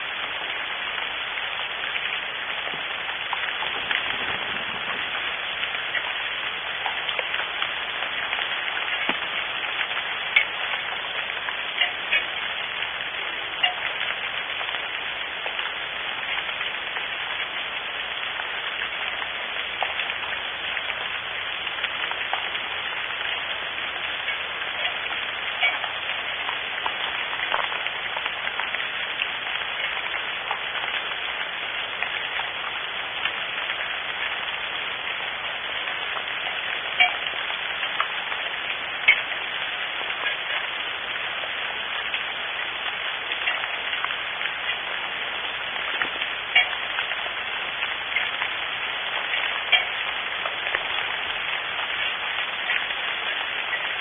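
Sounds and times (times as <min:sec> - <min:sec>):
rain on wooden box: 0:00.0 - 0:54.0.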